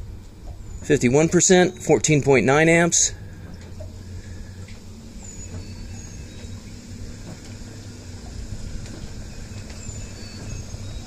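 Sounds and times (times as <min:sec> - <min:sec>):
trolling motor humming: 0:00.0 - 0:11.0.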